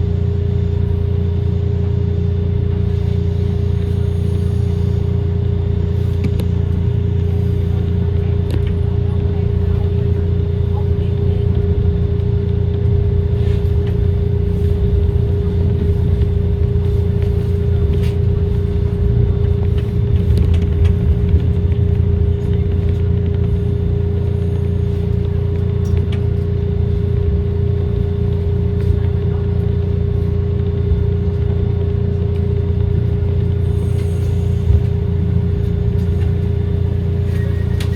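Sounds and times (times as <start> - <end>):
steady hum: 0.0 - 37.9
trolley wheels and motors rumbling: 0.0 - 37.9.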